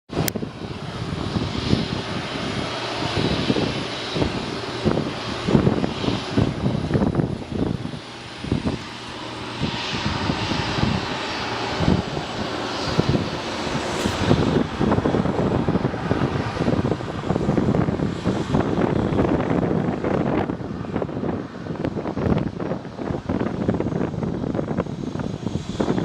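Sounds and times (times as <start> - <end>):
high engine whine: 0.1 - 26.0
jet engines running: 0.1 - 26.0
wind buffeting microphone: 0.1 - 26.0.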